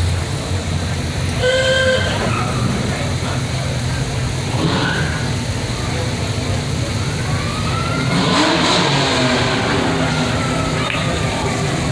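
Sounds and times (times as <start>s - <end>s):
car engine rumbling and revving: 0.0s - 11.9s.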